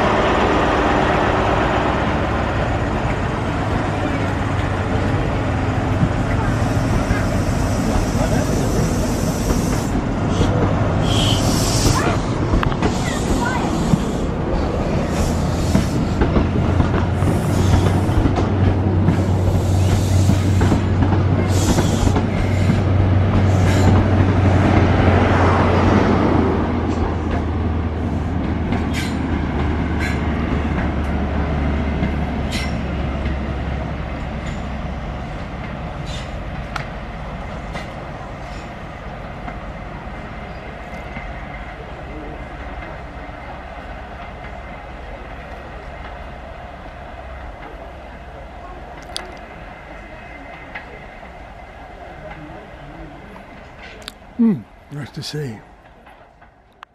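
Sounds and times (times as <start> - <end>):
diesel train engine drone: 0.0 - 56.9.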